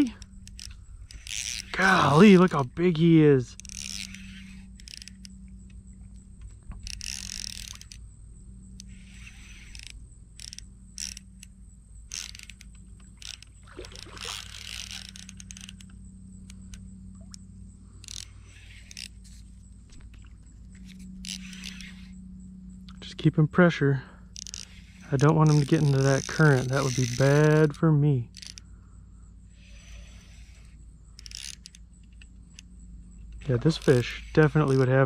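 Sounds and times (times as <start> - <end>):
reel clicking while cranked: 0.0 - 5.8, 6.7 - 8.0, 8.7 - 11.5, 12.1 - 16.9, 18.0 - 22.2, 24.3 - 28.7, 29.6 - 35.0
reel drag ticking and buzzing: 0.0 - 35.0.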